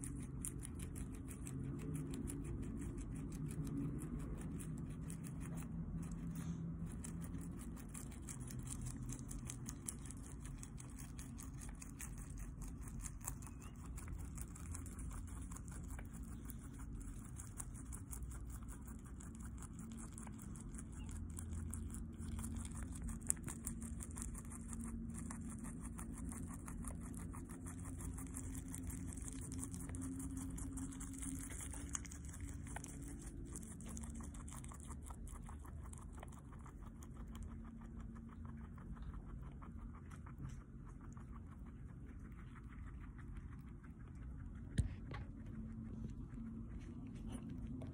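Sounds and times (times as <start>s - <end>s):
guinea pig chewing crunchily: 0.0s - 47.9s.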